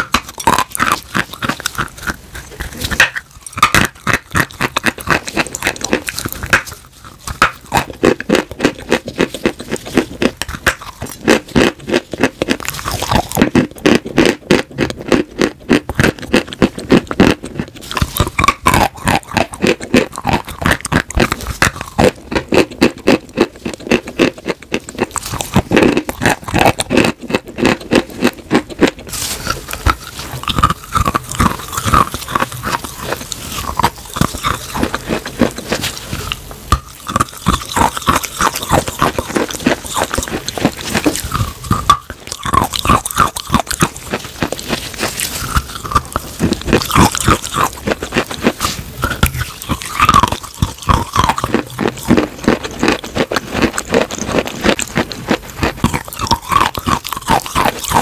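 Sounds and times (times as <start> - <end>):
chewing crunchy chalk: 0.0 - 58.0.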